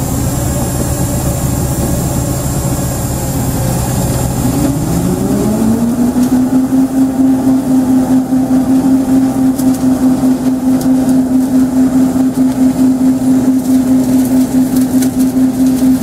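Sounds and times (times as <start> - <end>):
harvester machine humming: 0.0 - 16.0.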